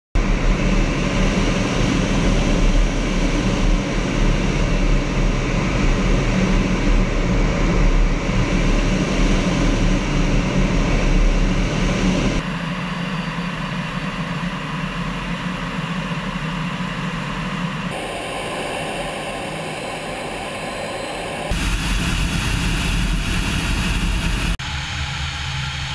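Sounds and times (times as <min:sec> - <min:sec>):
jet engine and airflow noise: 0:00.2 - 0:25.9.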